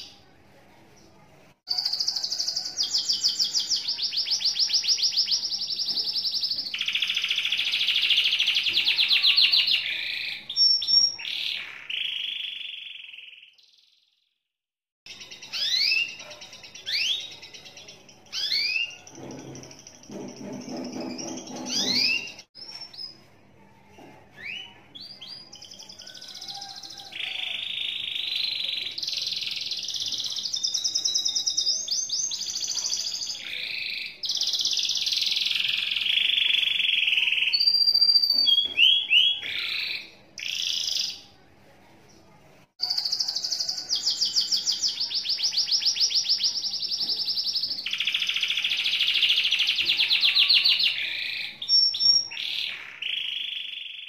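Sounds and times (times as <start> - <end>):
canary singing with trills: 1.7 - 14.1, 15.1 - 23.3, 24.3 - 41.4, 42.8 - 54.0.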